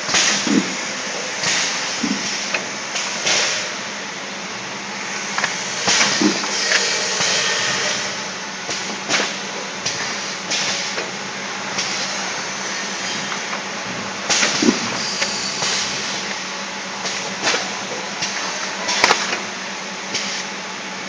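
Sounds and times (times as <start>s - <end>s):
pneumatic clunks and clicks: 0.0s - 3.8s, 5.2s - 16.4s, 17.0s - 19.5s, 20.1s - 20.5s
machine hum and hiss: 0.0s - 21.0s.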